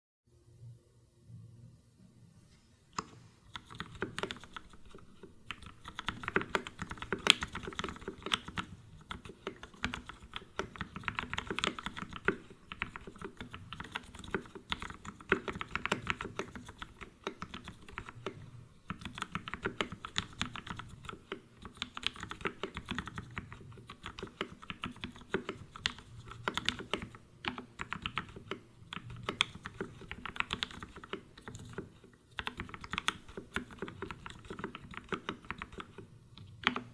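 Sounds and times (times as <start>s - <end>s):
mechanical keyboard typing: 3.5s - 36.9s.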